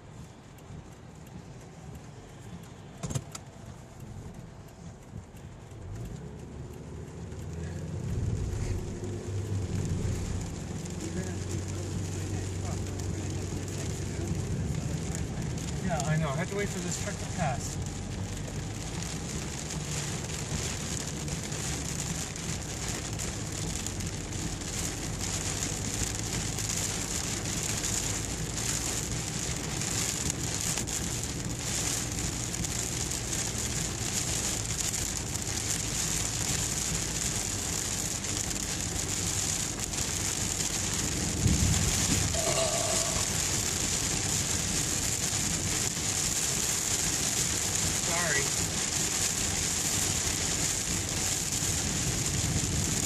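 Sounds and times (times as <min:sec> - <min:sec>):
heavy rain on car roof: 0:00.0 - 0:53.0
low rumble: 0:00.0 - 0:53.0.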